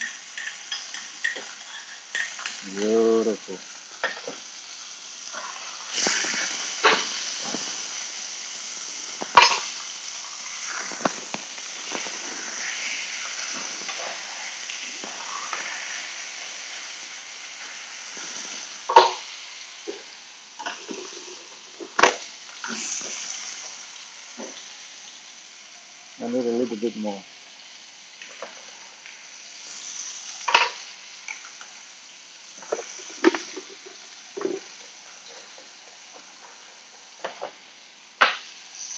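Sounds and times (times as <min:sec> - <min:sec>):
steak sizzling in a metal pan: 0:00.0 - 0:38.9.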